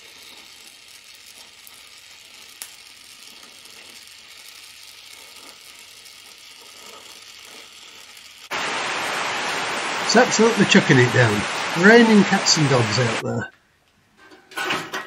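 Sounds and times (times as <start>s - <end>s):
welding torch flame hissing: 0.0s - 13.3s.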